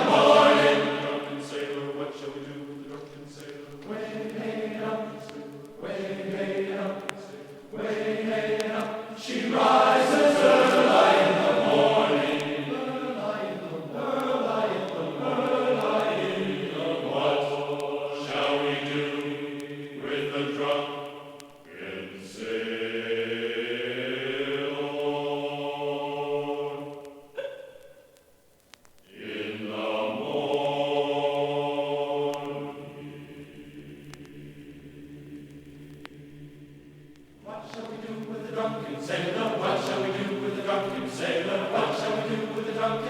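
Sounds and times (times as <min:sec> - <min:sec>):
choir singing chant-like notes: 0:00.0 - 0:28.1, 0:29.1 - 0:43.0.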